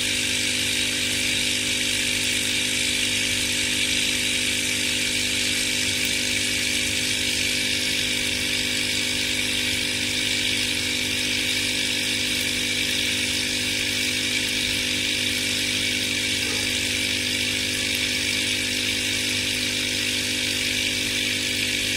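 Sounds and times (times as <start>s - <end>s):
small electric motor humming: 0.0s - 21.9s.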